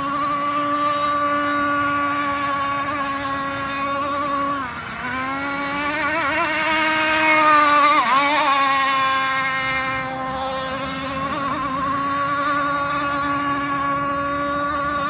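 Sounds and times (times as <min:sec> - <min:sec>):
small two-stroke engine buzzing: 0:00.0 - 0:15.0.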